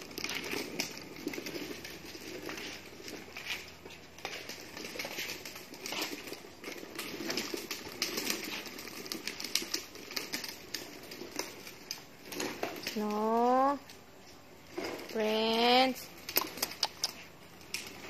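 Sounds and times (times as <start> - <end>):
plastic toy wheels rattling: 0.0 - 14.0, 14.6 - 18.0.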